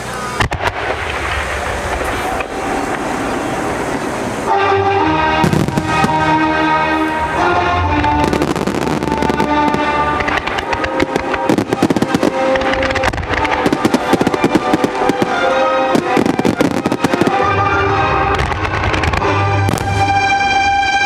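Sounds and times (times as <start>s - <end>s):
fireworks bangs and crackles: 0.0s - 21.0s
music playing: 2.6s - 21.0s.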